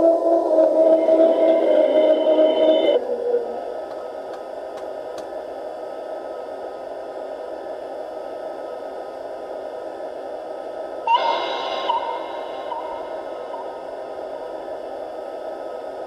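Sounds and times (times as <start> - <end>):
loudspeaker hissing running sound: 0.0 - 16.0.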